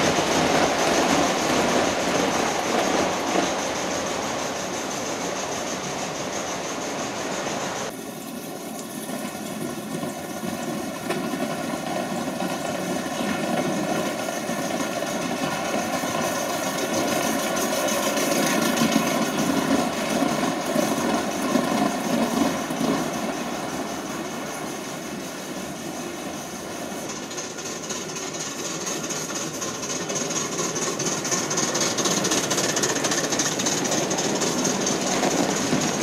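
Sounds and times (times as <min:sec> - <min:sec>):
model train whirring on track: 0:00.0 - 0:36.0.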